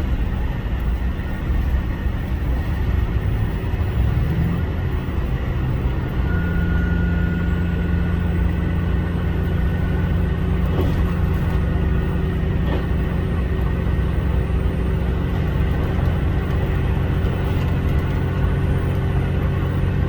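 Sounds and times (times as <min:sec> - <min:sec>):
railcar engine rumble: 0:00.0 - 0:20.0.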